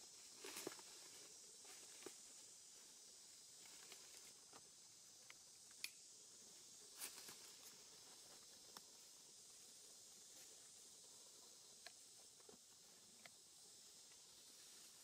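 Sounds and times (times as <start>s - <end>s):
faint high hiss: 0.0s - 15.0s.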